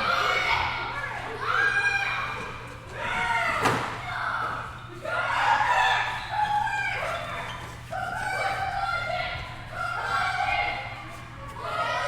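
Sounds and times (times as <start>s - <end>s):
children shouting and shrieking: 0.0s - 12.0s.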